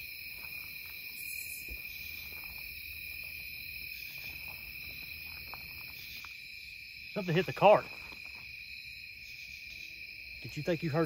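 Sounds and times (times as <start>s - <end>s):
crickets and insects trilling: 0.0s - 11.0s.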